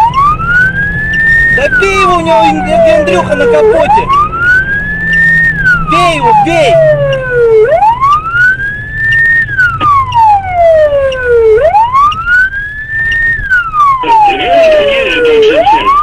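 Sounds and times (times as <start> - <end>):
police siren wailing: 0.0 - 16.0.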